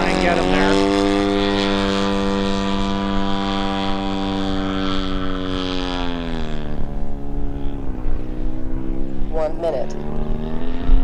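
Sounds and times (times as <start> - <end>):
model plane engine in flight: 0.0 - 11.0.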